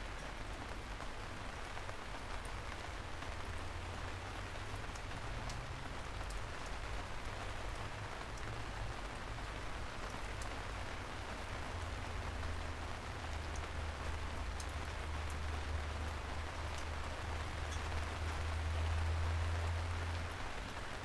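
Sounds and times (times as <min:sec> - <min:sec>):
steady rain hissing: 0:00.0 - 0:21.0.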